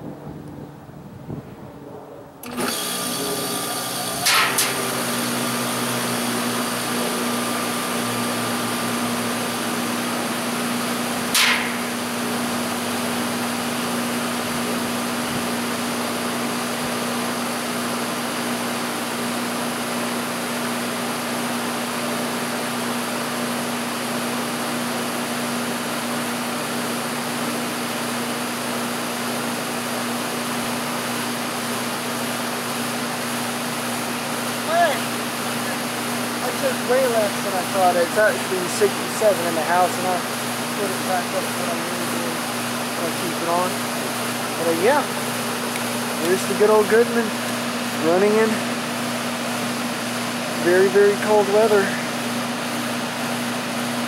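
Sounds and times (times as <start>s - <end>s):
outdoor fan rushing: 0.0s - 54.0s
heat pump humming: 2.4s - 54.0s.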